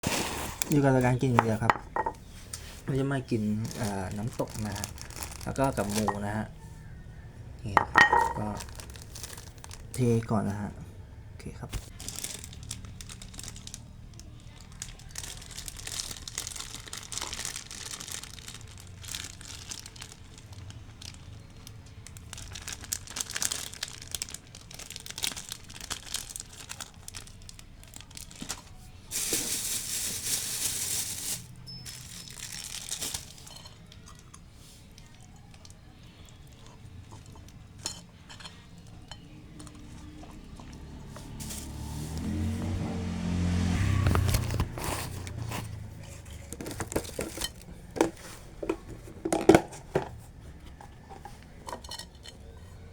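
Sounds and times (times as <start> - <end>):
plastic bags crinkling and rustling: 0.0 - 6.6, 7.7 - 10.6, 11.5 - 42.7, 43.7 - 52.9.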